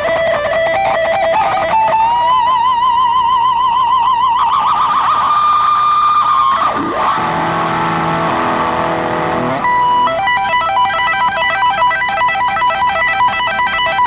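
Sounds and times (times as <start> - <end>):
distorted electric guitar solo: 0.0 - 14.0.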